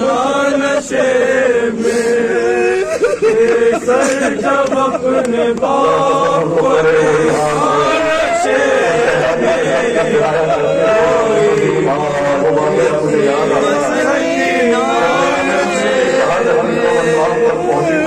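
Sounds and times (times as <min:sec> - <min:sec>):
men chanting in unison: 0:00.0 - 0:18.0
person reciting over microphone: 0:00.0 - 0:18.0.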